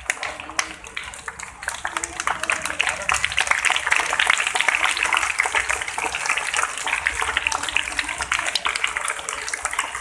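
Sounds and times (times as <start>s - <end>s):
children clapping: 0.0s - 10.0s.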